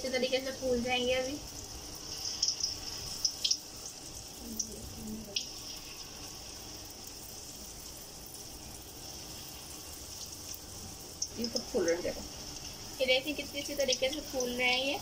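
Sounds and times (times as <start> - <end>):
batter deep-frying in hot oil: 0.0 - 15.0
sharp crackles of frying: 0.0 - 15.0.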